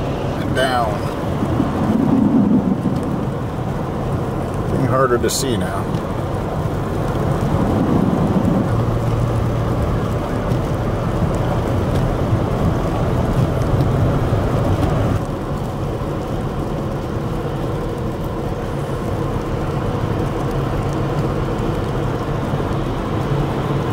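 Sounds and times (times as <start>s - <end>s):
car engine hum: 0.0s - 23.9s
tyre rumble on snowy road: 0.0s - 23.9s.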